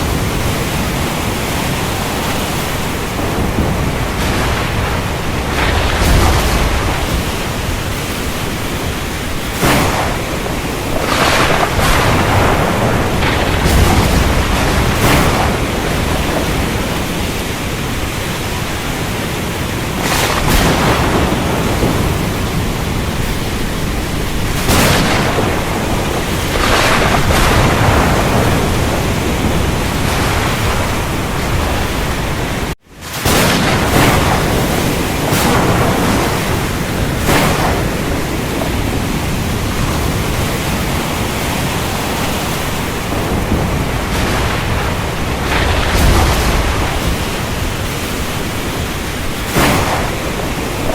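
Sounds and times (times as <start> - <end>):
heavy rain: 0.0 - 50.9
thunder rolling: 0.0 - 50.9.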